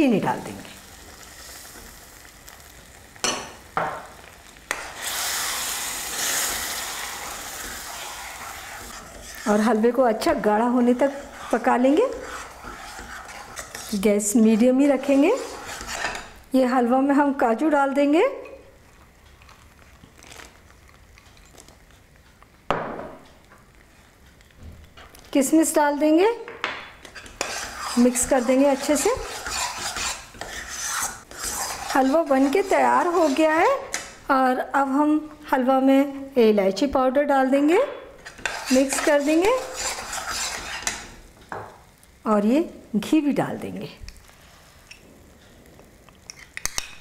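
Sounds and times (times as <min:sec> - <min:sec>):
food sizzling while stirred: 0:00.0 - 0:24.3, 0:24.9 - 0:35.8, 0:37.5 - 0:43.3, 0:44.1 - 0:47.0.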